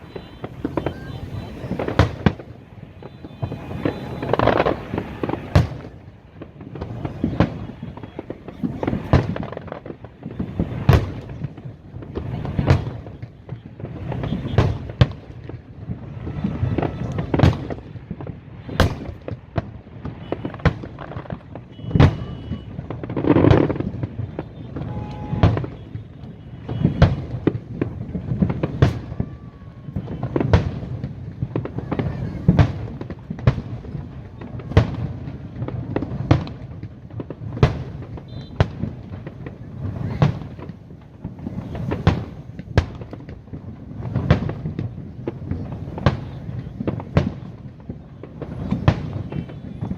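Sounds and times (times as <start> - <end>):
fireworks bangs: 0.0 - 49.9
fireworks pops and rumbling: 0.0 - 49.9.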